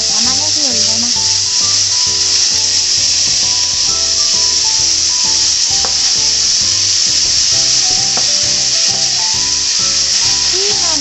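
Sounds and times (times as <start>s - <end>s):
background music with steady beat: 0.0s - 11.0s
meat sizzling in hot oil: 0.0s - 11.0s.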